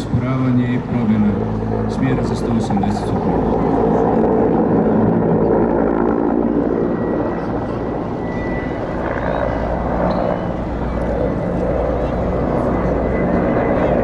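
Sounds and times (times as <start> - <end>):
helicopter flying past: 0.0 - 14.0.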